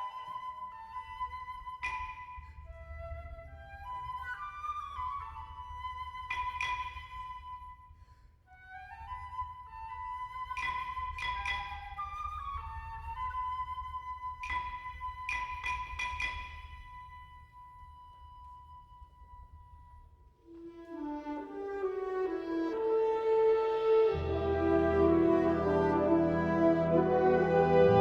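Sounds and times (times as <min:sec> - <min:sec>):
flute-like woodwind melody: 0:00.0 - 0:28.0.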